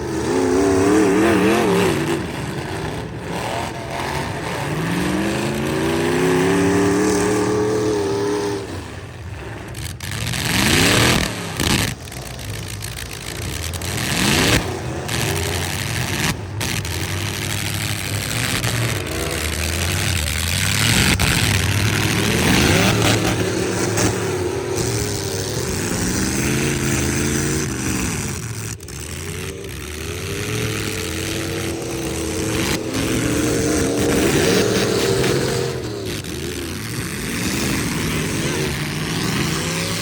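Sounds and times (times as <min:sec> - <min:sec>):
truck engines revving: 0:00.0 - 0:40.0.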